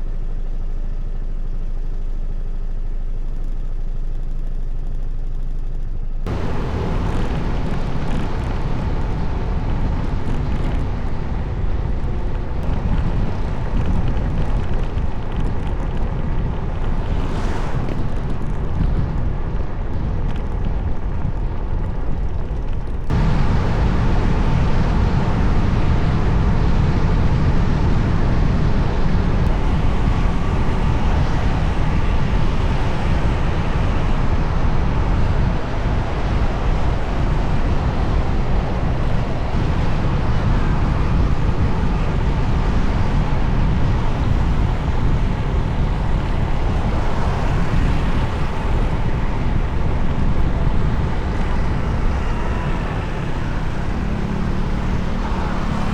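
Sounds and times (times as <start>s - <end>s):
motorbike engine and road noise: 0.0s - 55.9s
wind rush on microphone: 6.2s - 55.9s.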